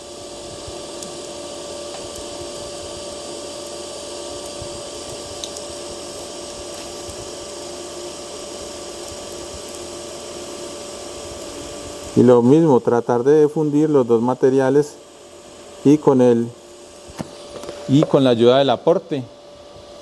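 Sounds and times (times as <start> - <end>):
welding arc hissing: 0.0 - 18.8
steady hum: 0.0 - 20.0.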